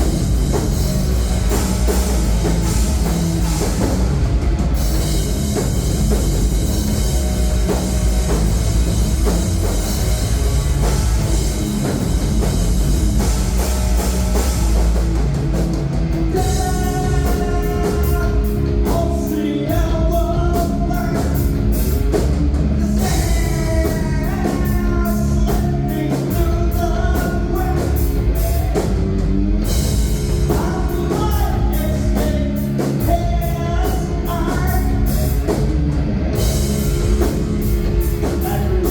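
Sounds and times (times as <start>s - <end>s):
bass guitar: 0.0s - 38.9s
distorted guitars: 0.0s - 38.9s
drum kit: 0.0s - 38.9s.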